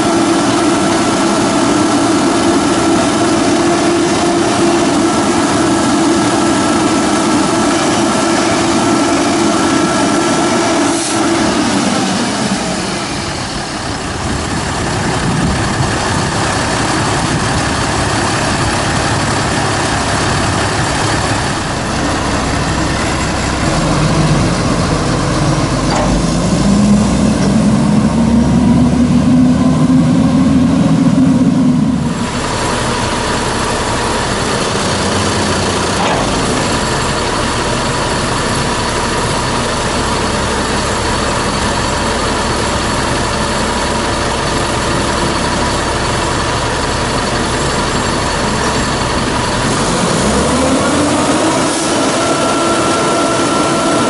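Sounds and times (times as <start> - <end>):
garbage truck diesel engine: 0.0 - 54.0.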